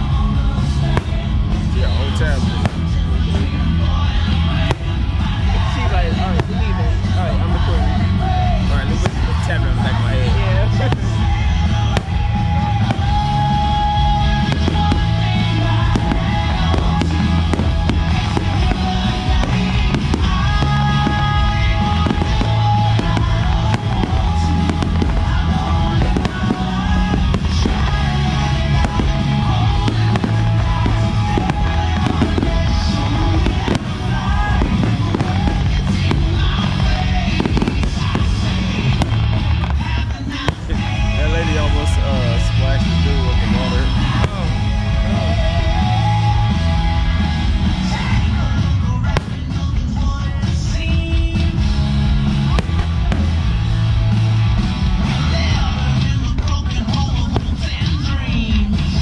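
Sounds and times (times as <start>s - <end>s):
fireworks bursting: 0.0s - 59.0s
loud music: 0.0s - 59.0s.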